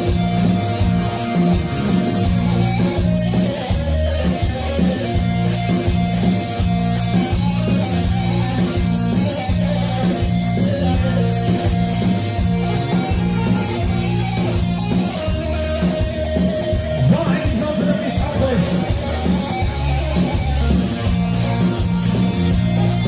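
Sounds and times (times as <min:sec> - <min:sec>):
amplified plucked string melody: 0:00.0 - 0:23.0
steady drum beat: 0:00.0 - 0:23.0.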